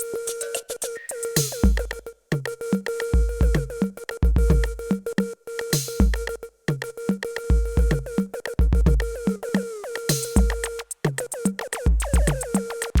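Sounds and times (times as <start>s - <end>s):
electronic music with drum-machine beat: 0.0s - 13.0s.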